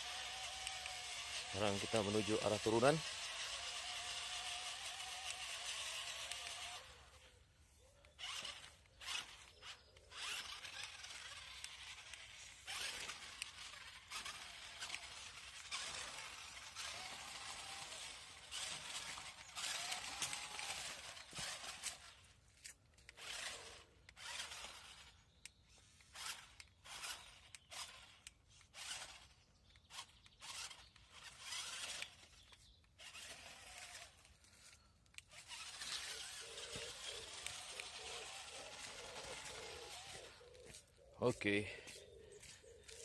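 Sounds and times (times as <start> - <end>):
toy car electric motor whirring: 0.0 - 43.0.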